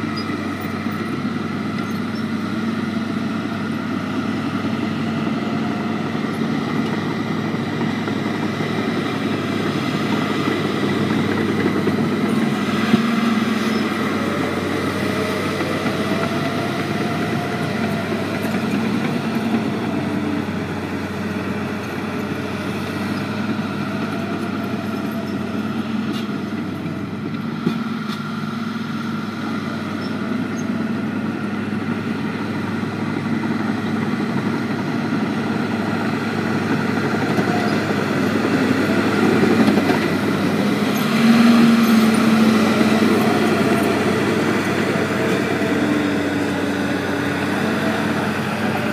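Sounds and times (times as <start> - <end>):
diesel engines running: 0.0 - 48.9.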